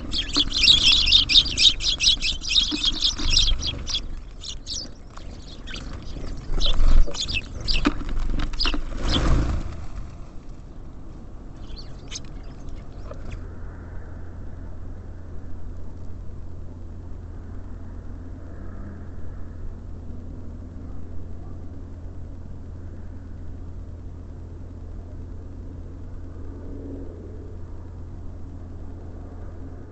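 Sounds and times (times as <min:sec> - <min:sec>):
low background rumble: 0:00.0 - 0:29.9.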